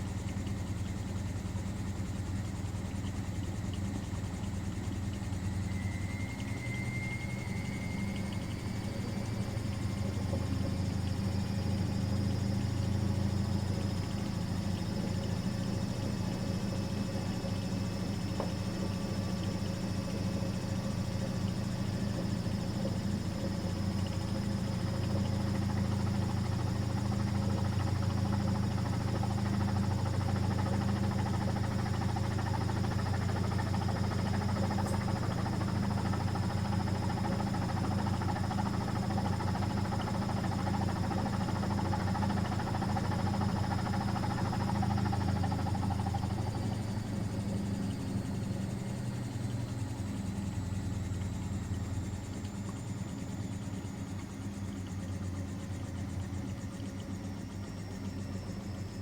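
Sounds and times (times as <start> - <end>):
washing machine running: 0.0 - 59.0.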